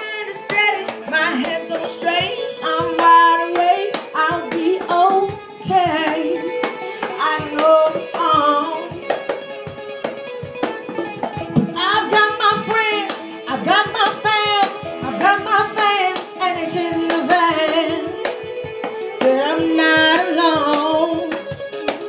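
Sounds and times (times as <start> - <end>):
electric guitar lead line: 0.0 - 22.0
hand-slapped cajon beat: 0.0 - 22.0.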